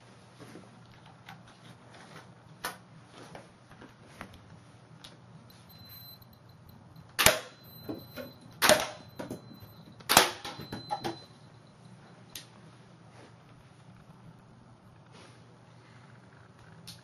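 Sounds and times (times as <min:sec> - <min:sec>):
thin high whine: 0:03.0 - 0:17.0.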